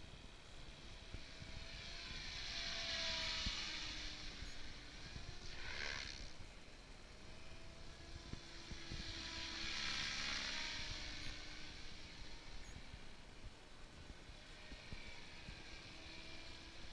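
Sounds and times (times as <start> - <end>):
model helicopter flying past: 0.0 - 16.9.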